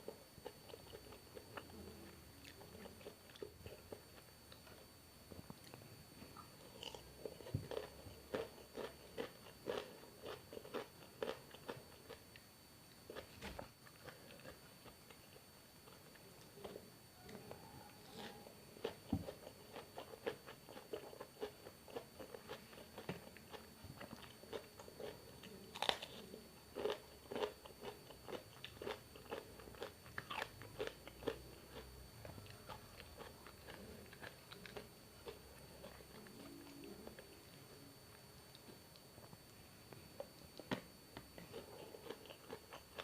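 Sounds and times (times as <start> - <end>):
chewing food crunching: 0.0 - 43.0.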